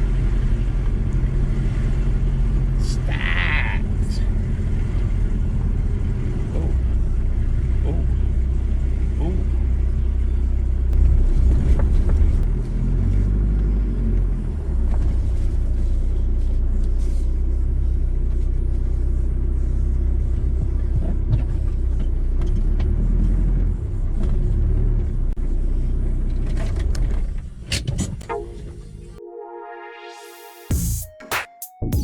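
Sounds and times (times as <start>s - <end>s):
motor vehicle rumbling: 0.0s - 29.2s.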